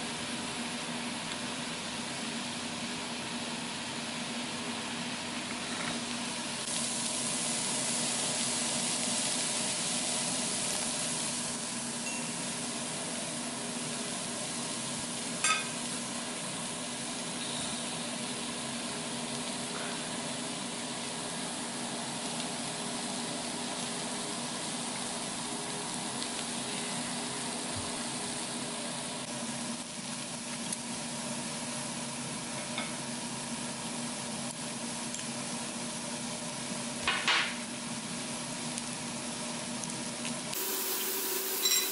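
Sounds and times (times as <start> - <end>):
food sizzling on a grill pan: 4.4 - 41.9.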